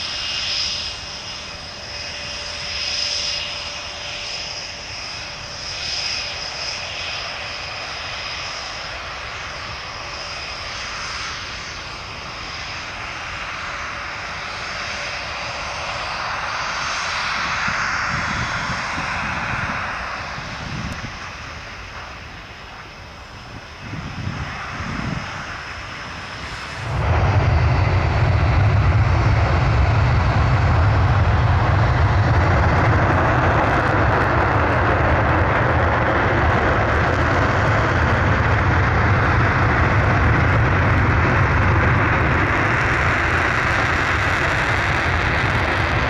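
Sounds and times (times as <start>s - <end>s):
jet engines running: 0.0s - 46.0s.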